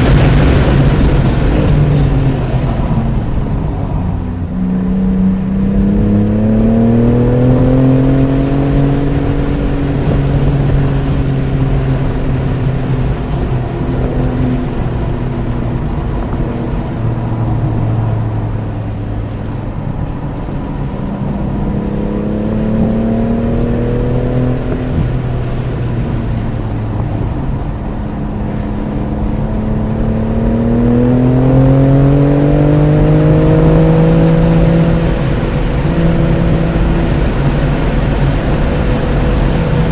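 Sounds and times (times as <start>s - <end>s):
car engine accelerating: 0.0s - 39.9s
road and wind noise: 0.0s - 39.9s.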